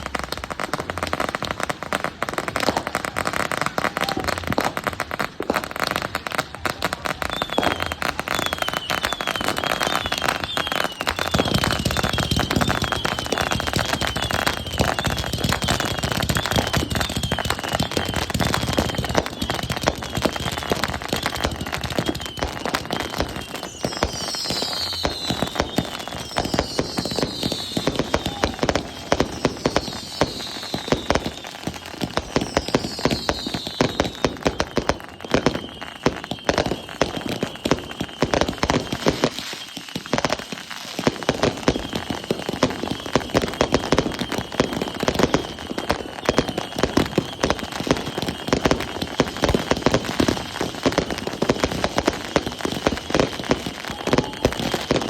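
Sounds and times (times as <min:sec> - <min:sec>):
fireworks crackling and popping: 0:00.0 - 0:55.0
fireworks whistles falling in pitch: 0:00.0 - 0:55.0.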